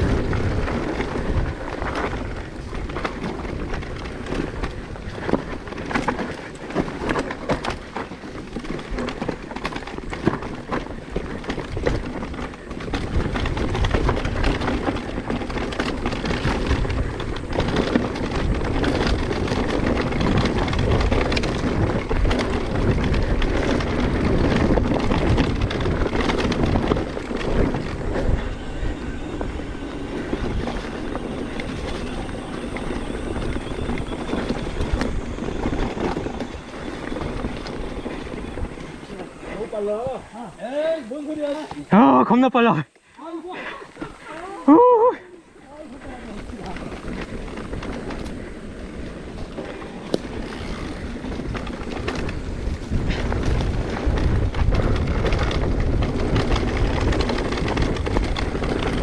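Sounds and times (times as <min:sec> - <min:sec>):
bike clattering over rough trail: 0:00.0 - 0:59.0.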